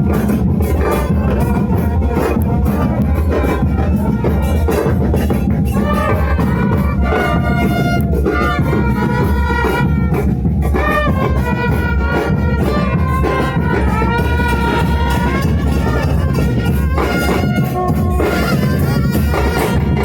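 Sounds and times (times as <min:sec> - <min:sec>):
brass horns playing melody: 0:00.0 - 0:20.0
heavy low beat: 0:00.0 - 0:20.0.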